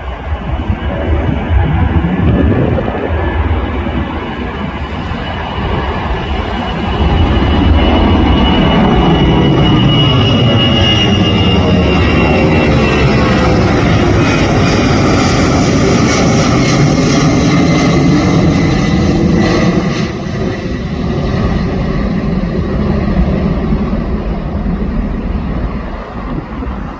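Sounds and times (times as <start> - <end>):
jet engine roar with whine: 0.0 - 26.9.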